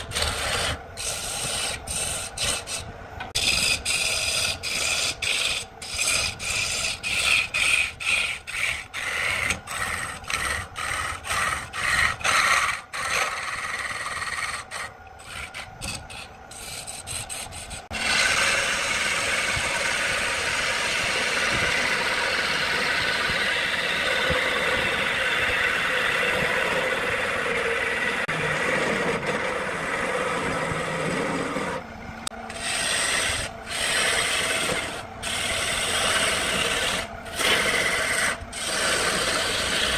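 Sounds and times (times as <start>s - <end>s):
gouge scraping spinning log: 0.0s - 39.9s.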